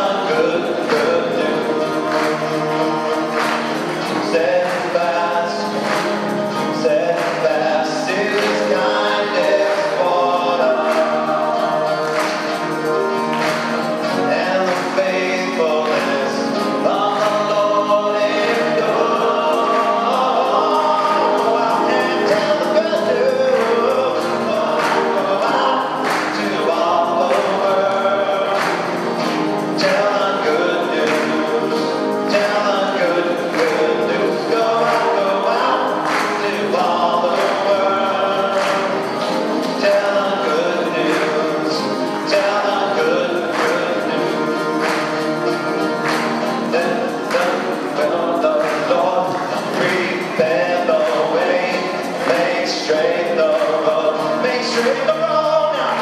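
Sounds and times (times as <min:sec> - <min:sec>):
acoustic guitar: 0:00.0 - 0:56.0
choir singing a hymn: 0:00.0 - 0:56.0.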